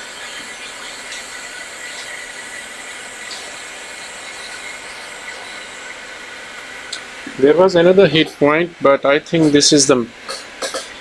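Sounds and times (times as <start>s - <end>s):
hot air station blowing hiss: 0.0s - 11.0s.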